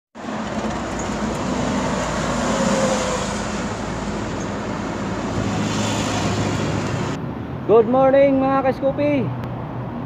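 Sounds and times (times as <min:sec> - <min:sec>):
road traffic rumble and hiss: 0:00.2 - 0:10.0.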